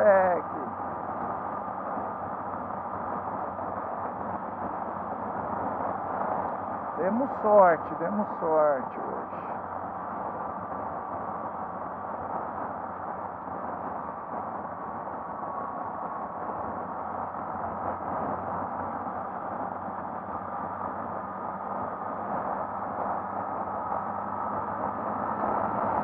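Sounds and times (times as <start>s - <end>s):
motorcycle engine hum: 0.0s - 7.1s, 9.3s - 26.0s
wind rushing on microphone: 0.1s - 26.0s.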